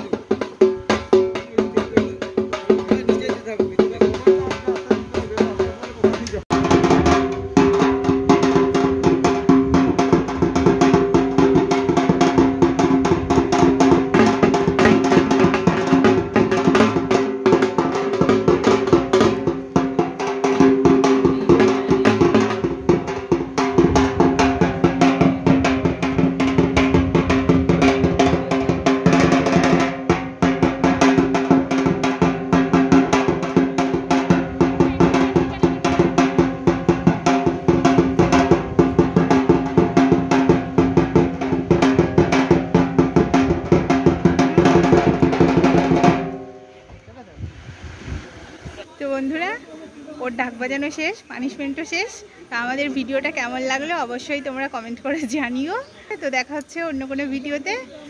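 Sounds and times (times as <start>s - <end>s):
barrel drum beaten with sticks: 0.0s - 46.7s.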